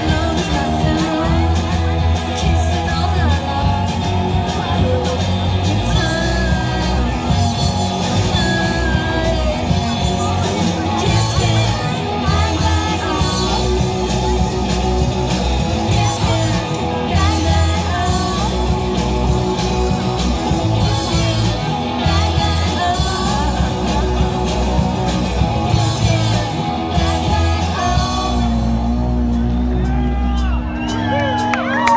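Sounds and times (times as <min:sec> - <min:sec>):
woman singing: 0:00.0 - 0:29.2
drum kit beat: 0:00.0 - 0:31.9
electric bass: 0:00.0 - 0:31.9
electric guitar: 0:00.0 - 0:31.9.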